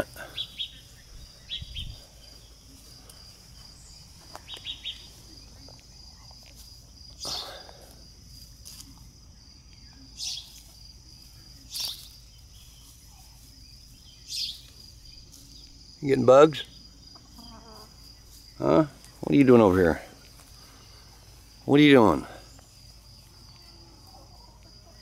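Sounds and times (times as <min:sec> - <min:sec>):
insect trilling: 0:00.0 - 0:25.0.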